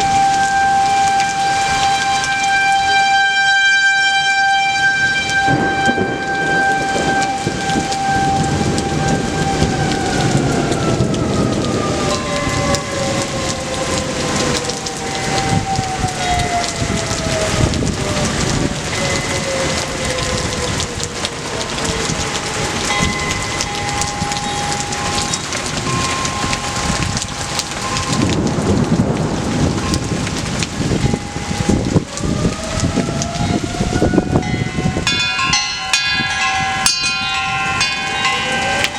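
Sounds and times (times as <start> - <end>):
rain pouring down: 0.0 - 38.9
siren winding down: 0.0 - 38.9
thunder rumbling: 0.0 - 38.9.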